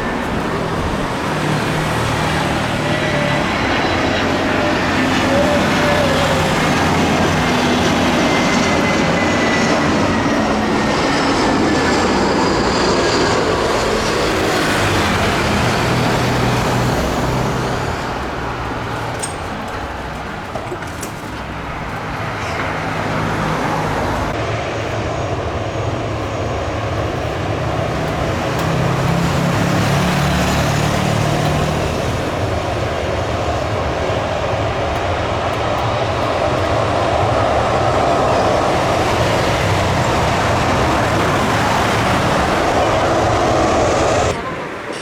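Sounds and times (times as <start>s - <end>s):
jet engine rumble: 0.0s - 45.0s.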